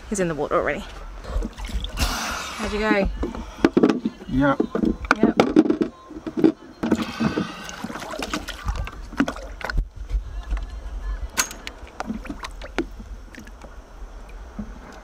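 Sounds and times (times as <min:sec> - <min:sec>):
water splashing and sloshing: 0:00.4 - 0:10.7, 0:11.3 - 0:15.0.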